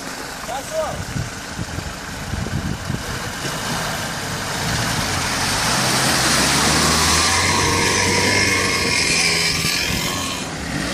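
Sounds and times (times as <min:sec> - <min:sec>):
car engine under load: 0:00.0 - 0:10.9.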